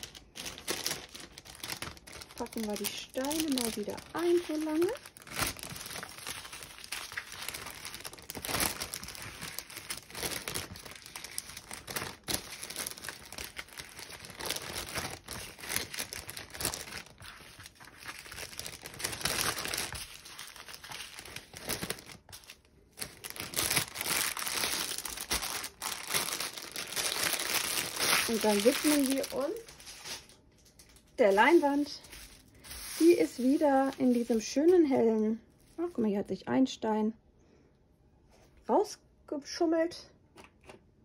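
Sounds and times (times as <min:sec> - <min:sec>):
plastic bags crinkling: 0:00.0 - 0:35.1.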